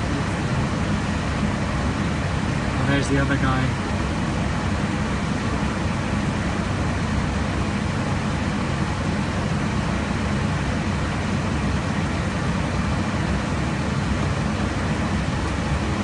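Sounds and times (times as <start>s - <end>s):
aircraft cabin engine rushing: 0.0s - 16.0s.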